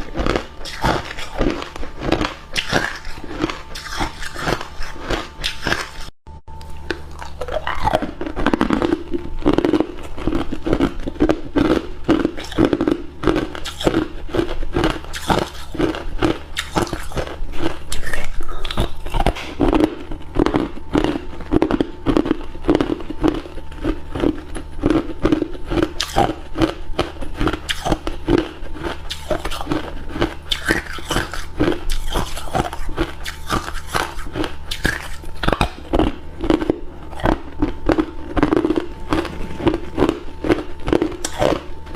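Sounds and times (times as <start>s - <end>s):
ice being chewed: 0.0s - 41.9s.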